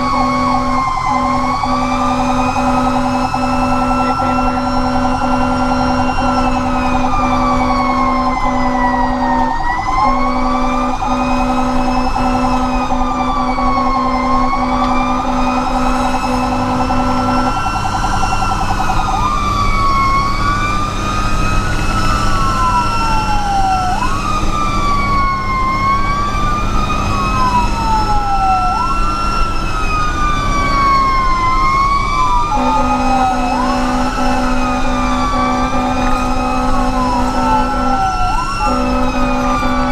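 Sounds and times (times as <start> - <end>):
second siren with quick sweeps: 0.0 - 39.9
siren wailing: 0.0 - 39.9
truck engine: 0.0 - 39.9.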